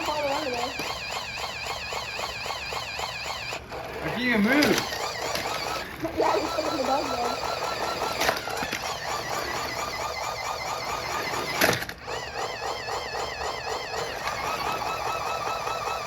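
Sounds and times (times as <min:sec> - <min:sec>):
toy car motor whining: 0:00.0 - 0:16.0.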